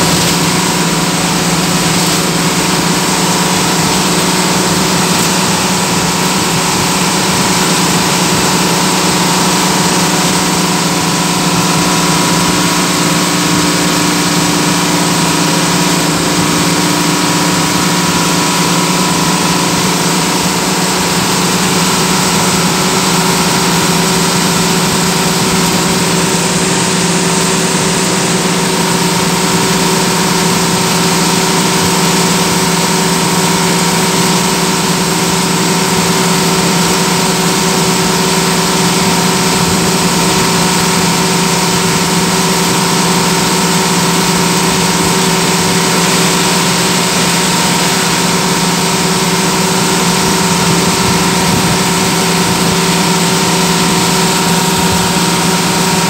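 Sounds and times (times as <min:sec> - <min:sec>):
bus engine and tyre drone: 0:00.0 - 0:56.0.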